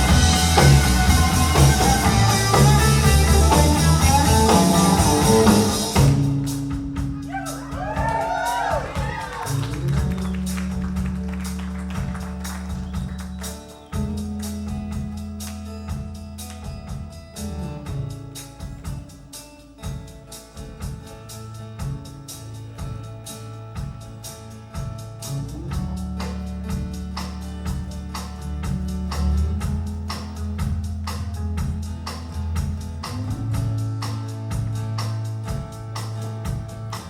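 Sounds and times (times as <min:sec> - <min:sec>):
guitars strumming and picking: 0:00.0 - 0:37.0
held bass notes: 0:00.0 - 0:37.0.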